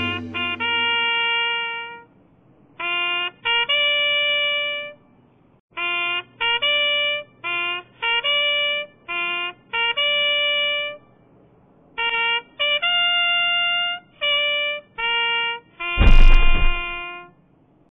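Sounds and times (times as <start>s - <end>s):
brass-like melody: 0.0s - 2.1s, 2.8s - 5.0s, 5.8s - 11.0s, 12.0s - 17.3s.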